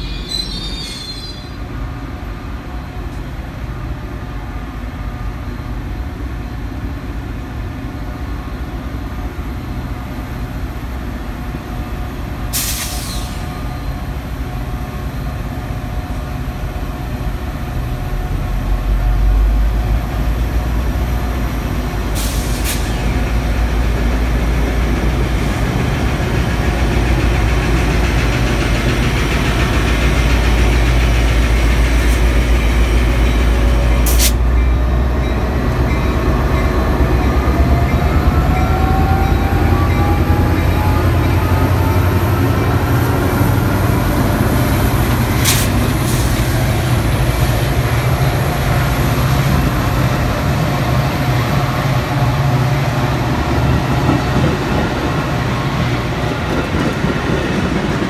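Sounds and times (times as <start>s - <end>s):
diesel locomotive rumbling: 0.0s - 58.0s
train wheels on rails: 0.0s - 58.0s.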